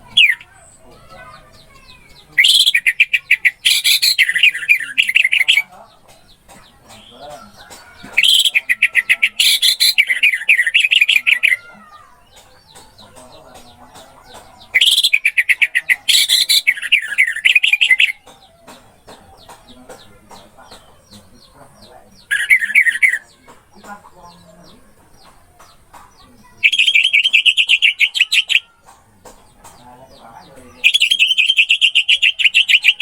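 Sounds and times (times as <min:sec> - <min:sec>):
faint bird chirping: 0:00.0 - 0:33.0.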